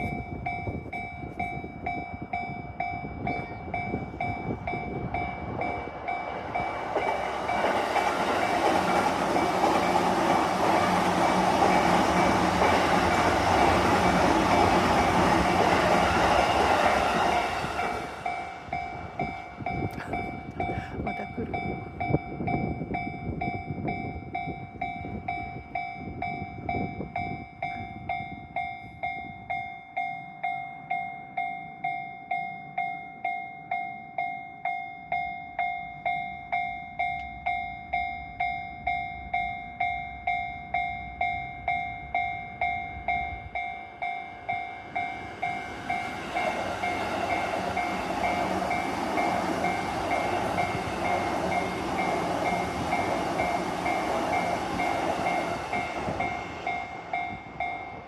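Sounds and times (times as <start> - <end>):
train rumbling past: 0.0 - 29.6, 36.0 - 58.0
level crossing warning bell: 0.0 - 58.0.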